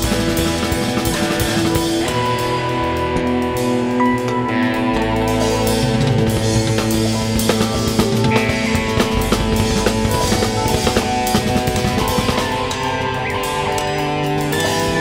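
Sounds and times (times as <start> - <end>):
drum kit played busily: 0.0 - 15.0
instrumental band music: 0.0 - 15.0.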